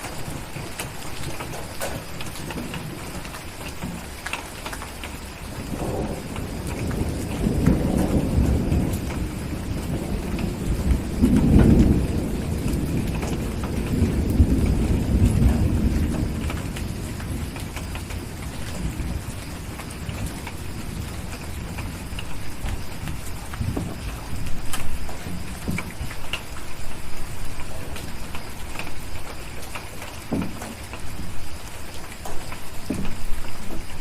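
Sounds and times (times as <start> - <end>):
low thunder rumbling: 0.0 - 34.0
steady rain: 0.0 - 34.0.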